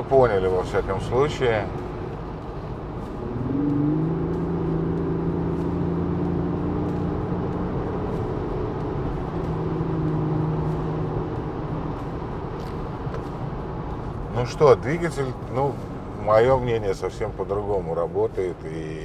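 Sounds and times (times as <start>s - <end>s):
car engine pulling: 0.0s - 17.3s
road and tyre noise: 0.0s - 19.0s.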